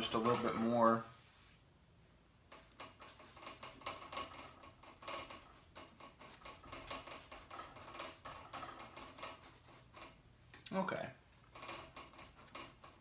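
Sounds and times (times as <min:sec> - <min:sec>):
paintbrush scratching on canvas: 0:00.0 - 0:01.6, 0:02.5 - 0:10.2, 0:11.5 - 0:13.0.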